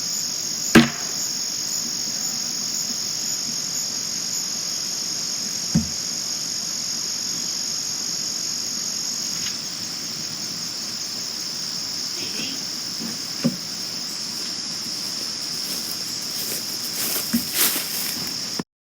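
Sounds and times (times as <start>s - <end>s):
crickets chirping: 0.0s - 18.6s.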